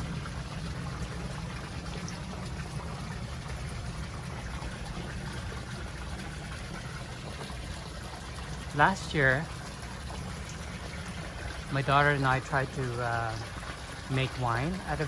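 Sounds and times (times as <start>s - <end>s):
constant low rumble: 0.0s - 15.0s
trickling water: 0.0s - 15.0s.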